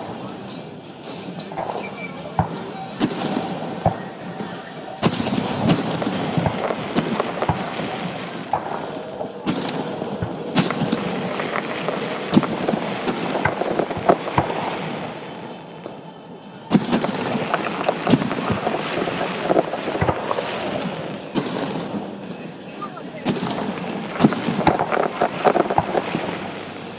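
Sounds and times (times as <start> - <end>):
fireworks bangs and crackles: 1.5 - 26.9.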